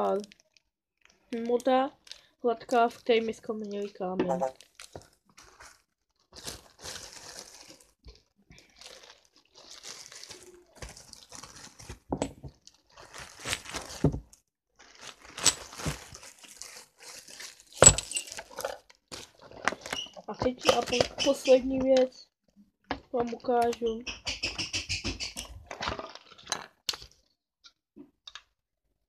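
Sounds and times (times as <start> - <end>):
plastic bag crinkling: 0.0 - 22.1, 25.7 - 27.2.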